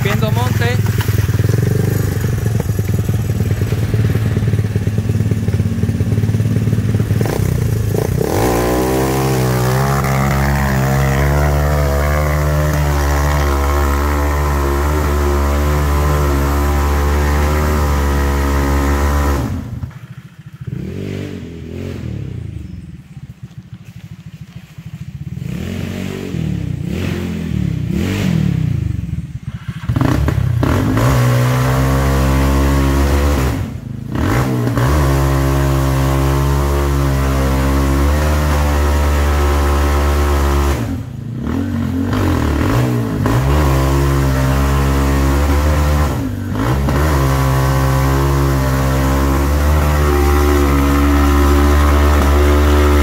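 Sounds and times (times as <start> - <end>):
go-kart engine revving: 0.0 - 22.8, 25.2 - 53.0.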